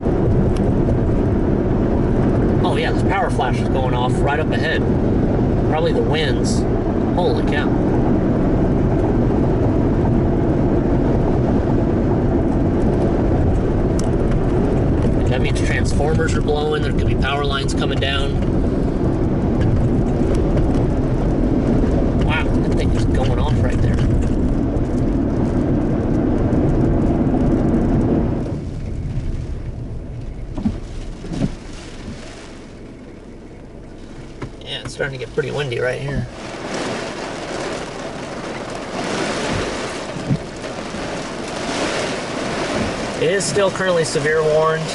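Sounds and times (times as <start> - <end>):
heavy rain: 0.0 - 44.9
strong storm wind: 0.0 - 44.9.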